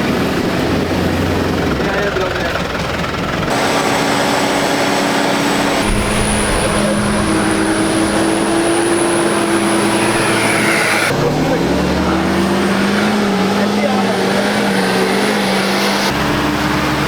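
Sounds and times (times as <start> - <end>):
vehicle engine running under load: 0.0 - 17.0.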